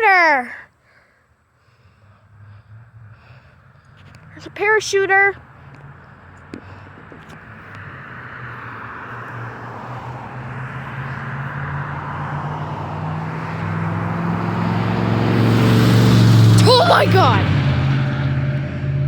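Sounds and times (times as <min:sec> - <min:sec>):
road noise: 0:00.0 - 0:19.0
motor vehicle approaching: 0:01.1 - 0:19.0.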